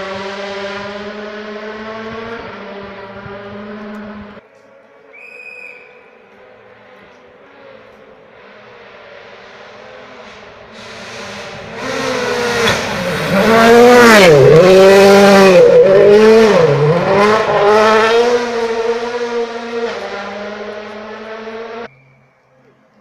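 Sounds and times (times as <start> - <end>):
rally car engine passing: 0.0 - 4.4, 5.8 - 22.0.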